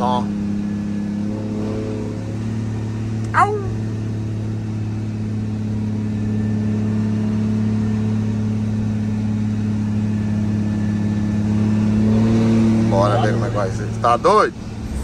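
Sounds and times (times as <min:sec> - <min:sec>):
truck diesel engine drone: 0:00.0 - 0:15.0.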